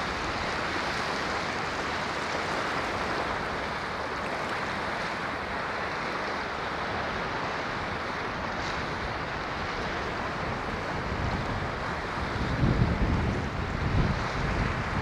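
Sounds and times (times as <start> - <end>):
ocean surf washing: 0.0 - 15.0.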